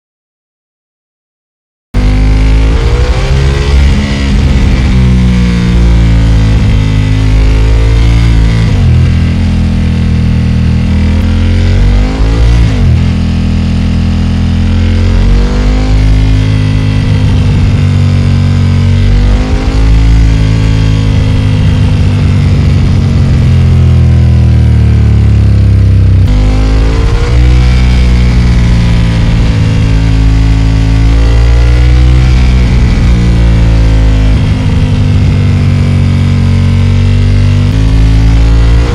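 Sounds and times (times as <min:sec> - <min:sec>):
motorcycle engine accelerating: 0:02.0 - 0:38.9.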